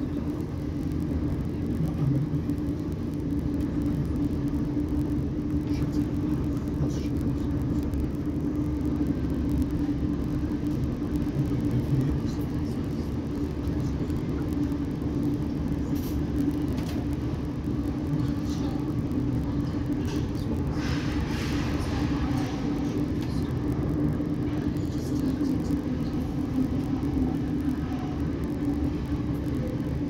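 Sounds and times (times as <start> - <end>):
constant low hum: 0.0 - 30.0
train wheels rumbling on track: 0.0 - 30.0.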